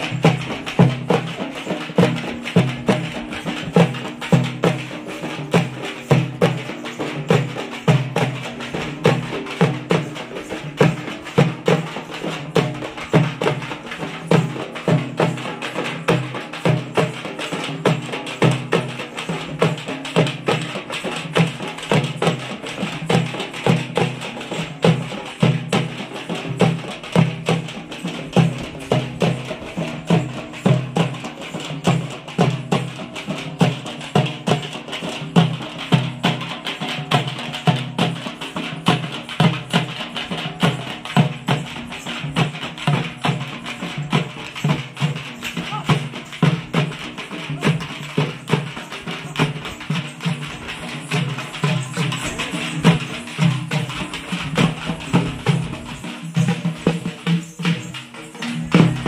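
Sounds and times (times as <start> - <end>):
frame drums beaten fast: 0.0 - 59.0.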